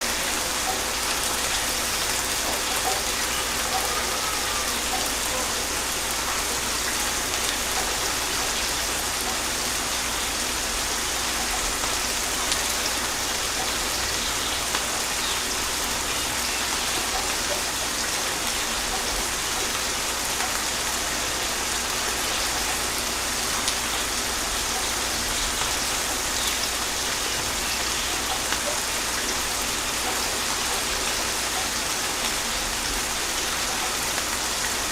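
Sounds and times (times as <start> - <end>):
gentle rain falling: 0.0 - 34.9
raindrop ticks: 0.1 - 34.6.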